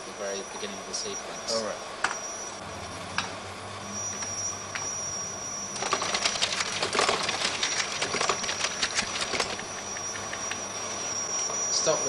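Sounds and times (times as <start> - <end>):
steady high whine: 0.0 - 12.0.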